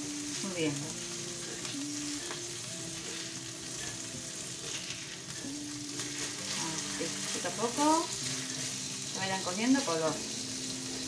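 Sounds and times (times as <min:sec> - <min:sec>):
fish sizzling in a frying pan: 0:00.0 - 0:11.0
tongs turning food: 0:00.0 - 0:11.0.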